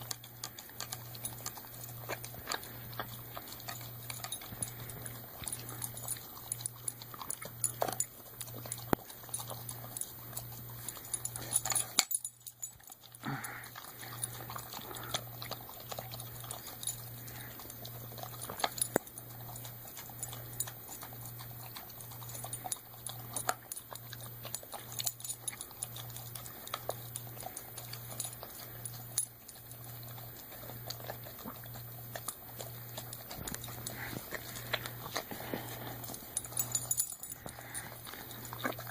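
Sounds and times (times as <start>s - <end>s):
dog eating wet food: 0.0s - 38.9s.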